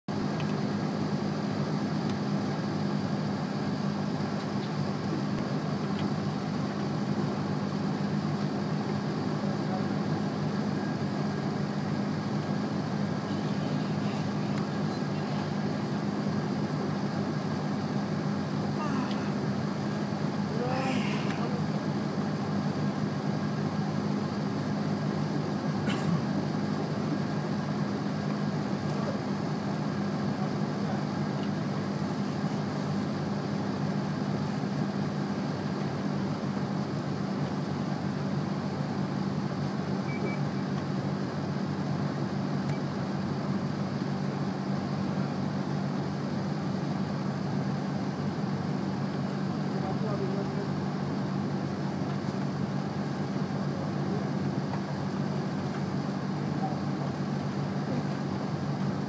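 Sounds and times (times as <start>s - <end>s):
vehicle engine idling: 0.1s - 59.0s.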